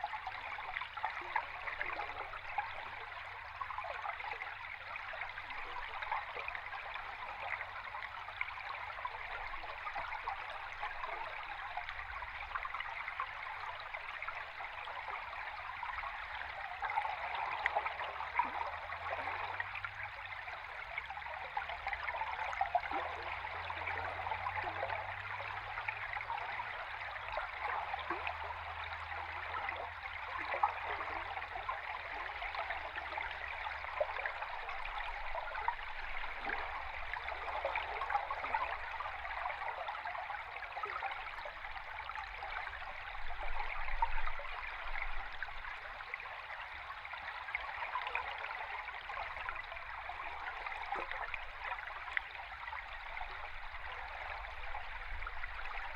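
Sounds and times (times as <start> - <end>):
underwater stream bubbling rush: 0.0 - 55.9.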